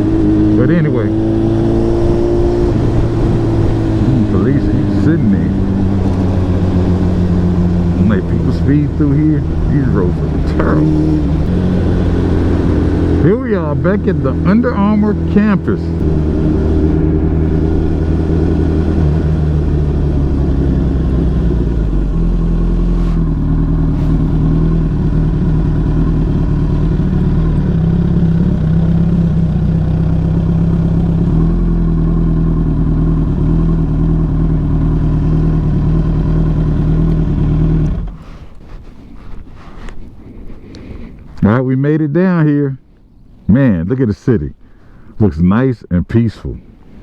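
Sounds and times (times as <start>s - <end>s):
motorcycle engine running: 0.0s - 38.8s.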